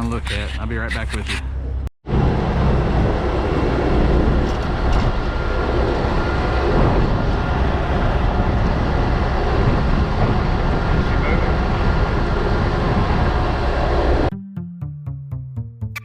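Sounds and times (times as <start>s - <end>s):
diesel engine running under load: 0.0s - 14.3s.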